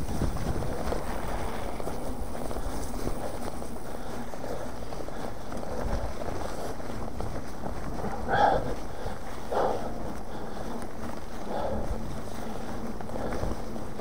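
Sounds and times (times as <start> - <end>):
bike rattling: 0.0 - 14.0
tyres rumbling on rough trail: 0.0 - 14.0
wind buffeting microphone: 0.0 - 14.0.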